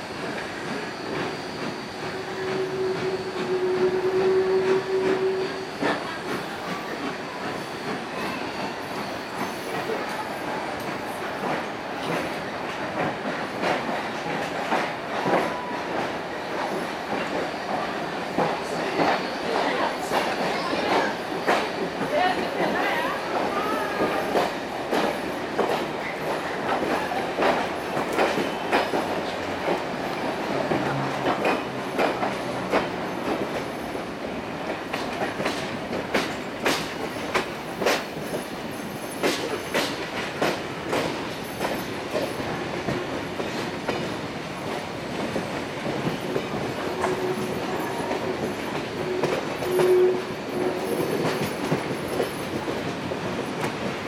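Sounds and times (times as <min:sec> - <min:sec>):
train rolling rumble: 0:00.0 - 0:54.0.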